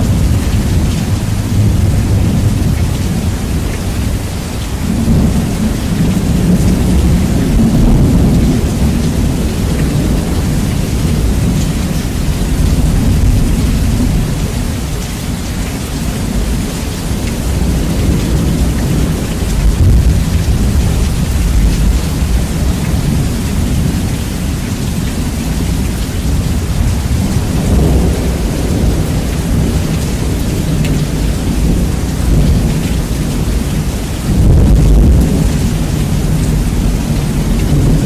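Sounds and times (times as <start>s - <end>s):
rolling thunder: 0.0s - 38.0s
steady rain: 0.0s - 38.0s.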